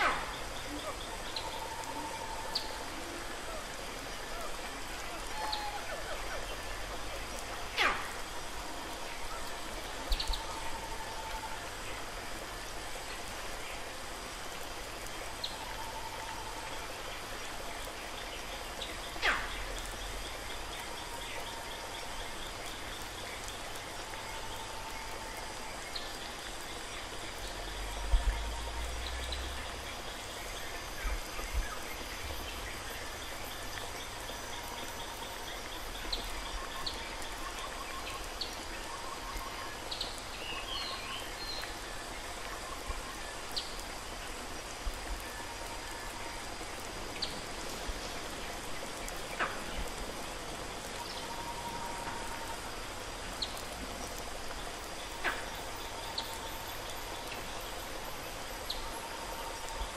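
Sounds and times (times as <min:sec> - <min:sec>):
faint chirps and clicks: 0:00.0 - 0:59.9
steady hiss: 0:00.0 - 0:59.9.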